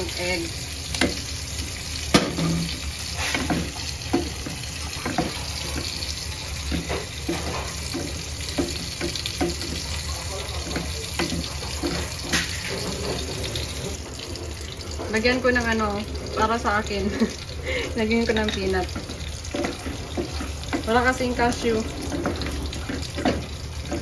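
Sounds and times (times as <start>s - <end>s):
utensil clinking against cookware: 2.1s - 14.0s, 16.4s - 24.0s.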